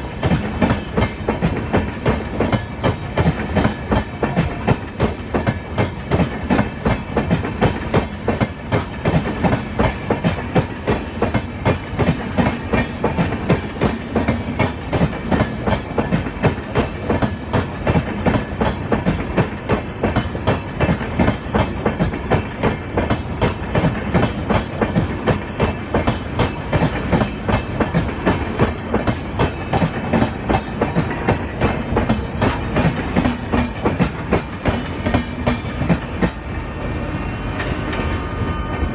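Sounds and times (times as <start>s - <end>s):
train wheels clattering over rail joints: 0.0s - 38.2s.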